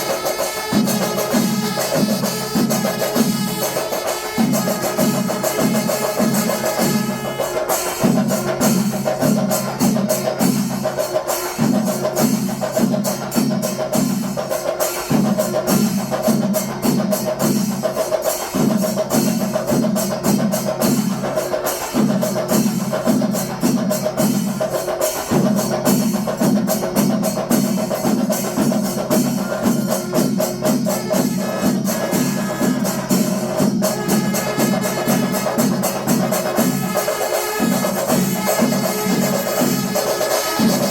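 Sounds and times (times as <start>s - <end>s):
percussion music with rapid drums: 0.0s - 40.9s.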